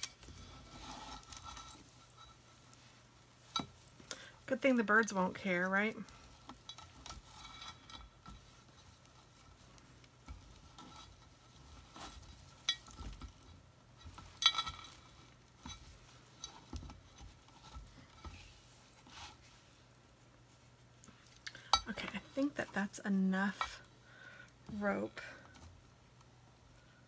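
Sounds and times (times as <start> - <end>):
rope handling rustles and clicks: 0.0 - 22.7.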